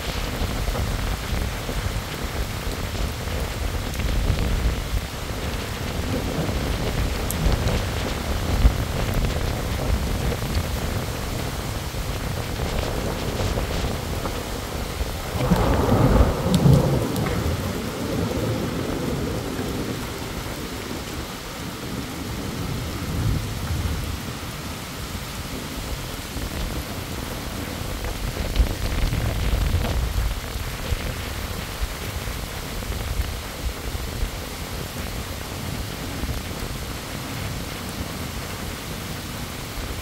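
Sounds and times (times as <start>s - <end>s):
heavy rain pouring: 0.0s - 40.0s
thunder rumbling: 0.0s - 40.0s.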